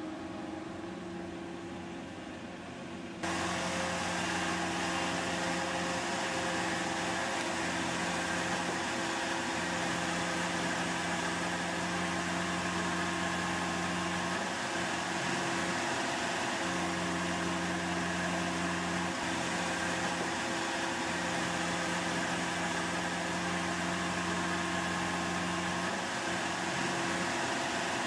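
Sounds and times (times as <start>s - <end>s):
forklift engine humming: 0.0s - 28.0s.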